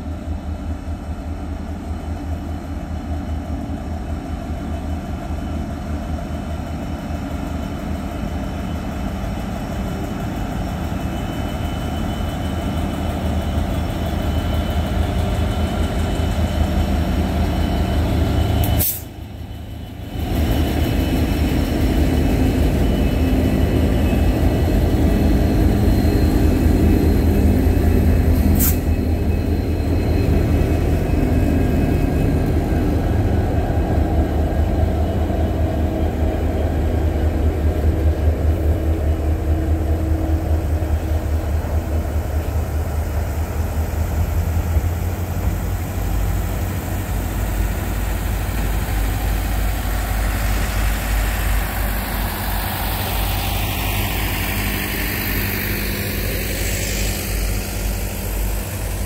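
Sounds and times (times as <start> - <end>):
freight train passing: 0.0 - 59.0.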